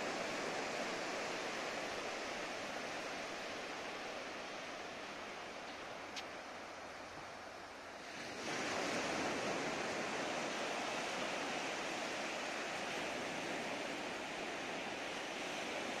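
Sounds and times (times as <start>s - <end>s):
waves breaking on a beach: 0.0s - 16.0s.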